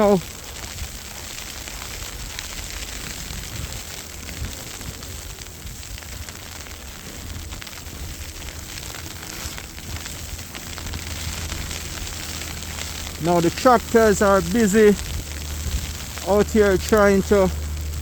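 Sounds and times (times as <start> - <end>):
crackling hiss: 0.0 - 18.0
wind rumbling on microphone: 0.0 - 18.0.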